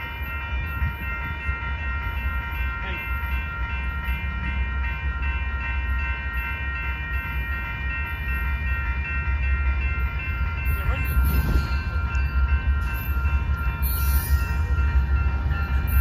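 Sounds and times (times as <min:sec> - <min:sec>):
crossing warning bell ringing: 0:00.0 - 0:16.0.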